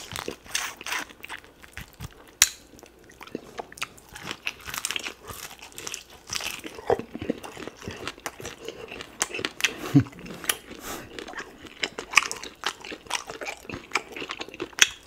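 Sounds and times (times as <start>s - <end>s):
person chewing meat: 0.0s - 15.0s.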